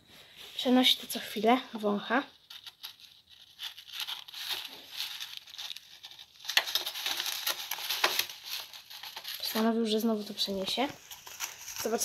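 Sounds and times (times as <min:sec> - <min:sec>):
rat rustling in granular bedding: 0:00.2 - 0:12.0.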